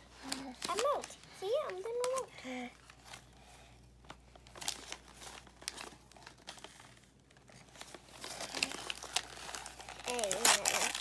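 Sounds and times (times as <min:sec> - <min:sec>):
gift-wrap paper crinkling: 0:00.0 - 0:11.0.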